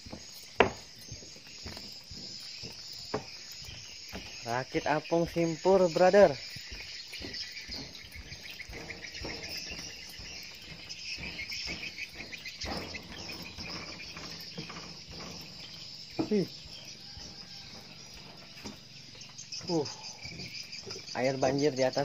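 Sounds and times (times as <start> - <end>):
soft knocks: 0.0 - 4.5, 5.2 - 18.9
insects chirring: 0.0 - 22.0.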